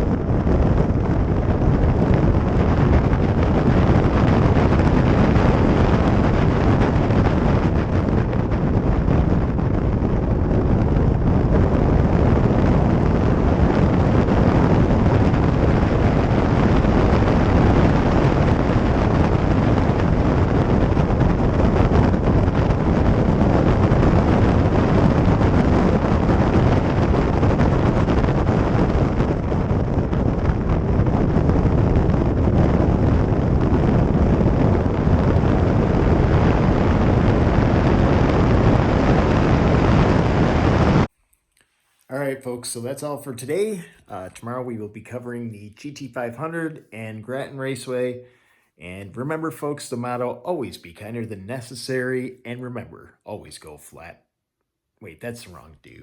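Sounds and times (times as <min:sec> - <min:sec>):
wind buffeting microphone: 0:00.0 - 0:41.1, 0:42.4 - 0:48.5.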